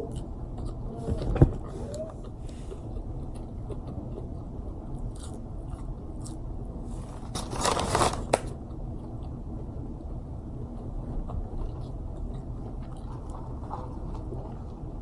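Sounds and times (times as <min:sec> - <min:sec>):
chewing crispy food: 0:02.0 - 0:15.0.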